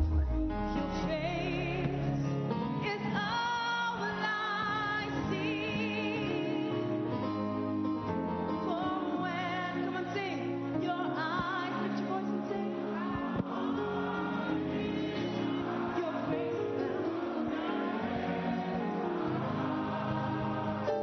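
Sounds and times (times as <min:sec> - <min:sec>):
gospel singing: 0:00.0 - 0:21.0.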